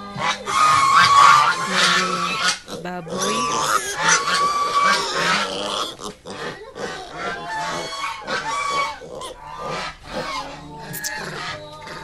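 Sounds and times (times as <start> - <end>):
young pigs squealing: 0.0 - 12.0.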